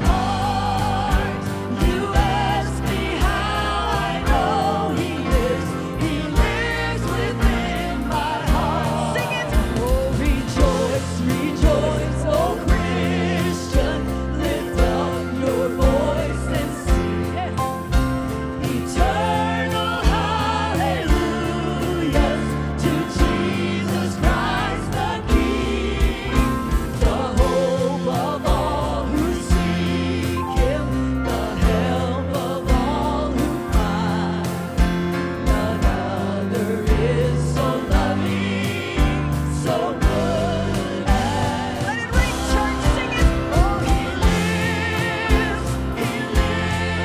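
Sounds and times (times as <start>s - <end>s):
band with drums: 0.0s - 47.0s
voices singing in harmony: 0.0s - 47.0s.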